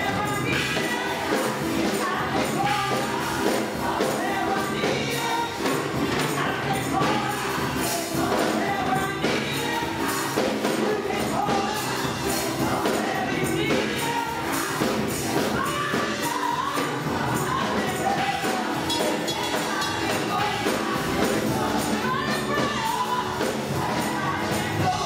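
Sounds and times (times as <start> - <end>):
band with percussive beat: 0.0 - 25.0
gospel choir singing: 0.0 - 25.0.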